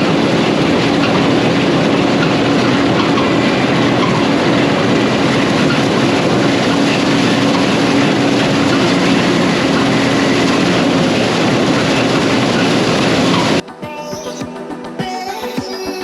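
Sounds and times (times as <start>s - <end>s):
combine harvester running: 0.0s - 13.6s.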